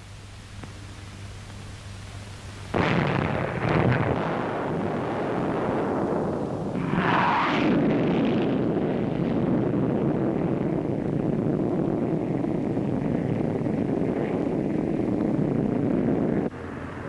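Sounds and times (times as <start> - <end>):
jet fighter roar: 2.8 - 17.0.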